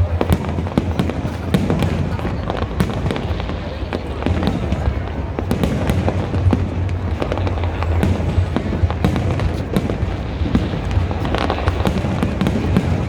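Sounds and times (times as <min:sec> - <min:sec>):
fireworks bangs and crackles: 0:00.0 - 0:13.0
rumble of distant fireworks: 0:00.0 - 0:13.0.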